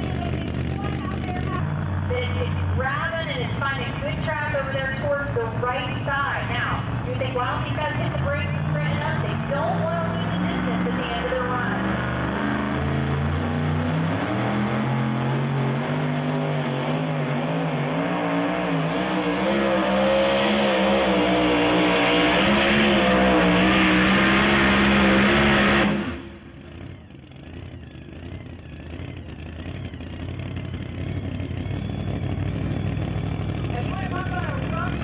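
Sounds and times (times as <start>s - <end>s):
truck engine at full throttle: 0.0s - 35.0s.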